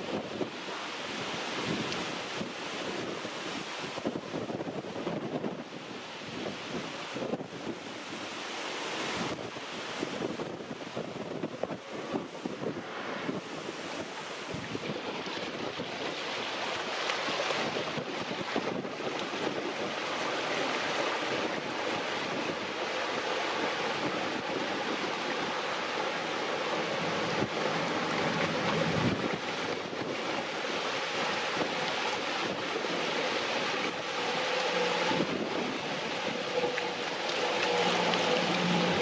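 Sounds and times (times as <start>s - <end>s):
strong wind on microphone: 0.0s - 39.0s.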